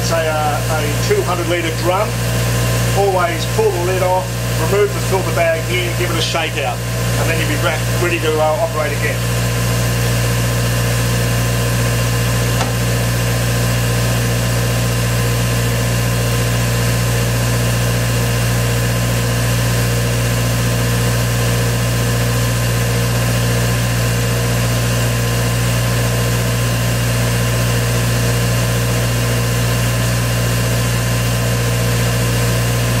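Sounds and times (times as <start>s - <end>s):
air compressor engine idling: 0.0s - 33.0s.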